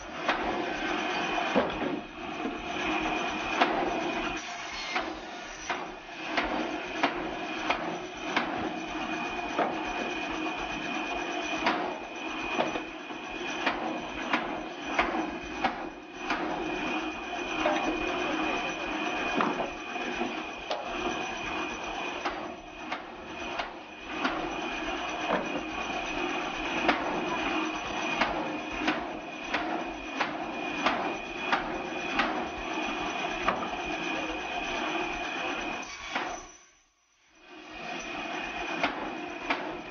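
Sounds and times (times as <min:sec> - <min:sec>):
band saw running: 0:00.0 - 0:36.5.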